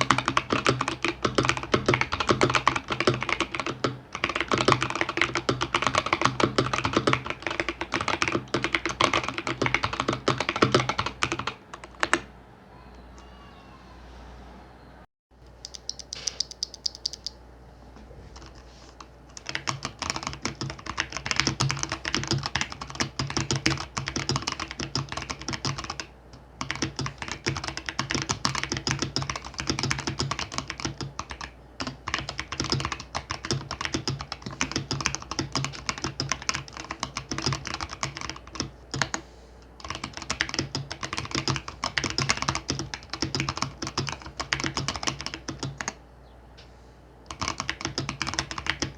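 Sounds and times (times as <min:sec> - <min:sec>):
mechanical keyboard typing: 0:00.0 - 0:12.3, 0:15.6 - 0:17.4, 0:19.3 - 0:39.2, 0:39.8 - 0:46.0, 0:47.3 - 0:48.9.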